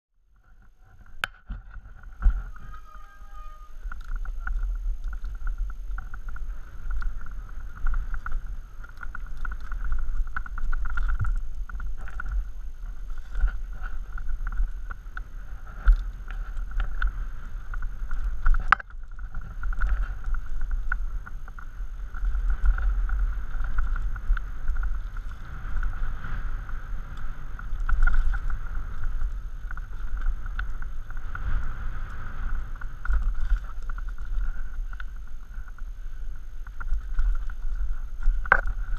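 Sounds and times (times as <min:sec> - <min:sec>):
bike tyre and frame rumble: 0:00.1 - 0:38.9
wind buffeting on microphone: 0:00.3 - 0:38.9
rattles and clicks over stones: 0:00.4 - 0:38.9.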